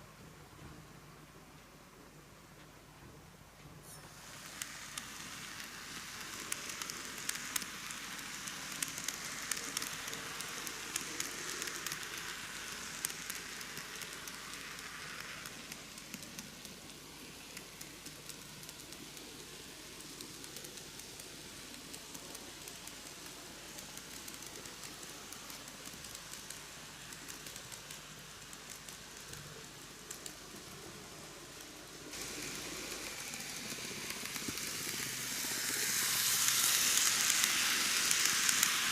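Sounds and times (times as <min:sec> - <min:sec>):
small irregular clicks: 0:03.6 - 0:38.9
model train running on track: 0:03.8 - 0:38.9.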